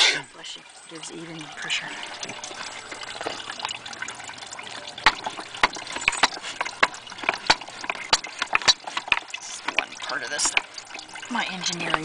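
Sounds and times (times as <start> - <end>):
juice trickling and dripping: 0.0 - 12.0.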